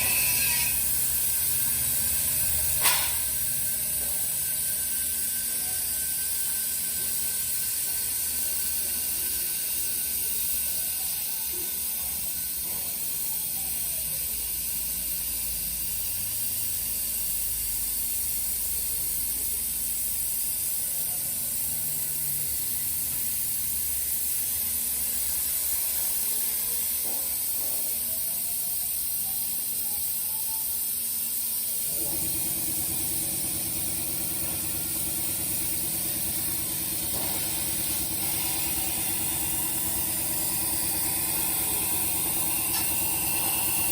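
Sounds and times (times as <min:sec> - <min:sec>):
plasma torch hissing: 0:00.0 - 0:43.9.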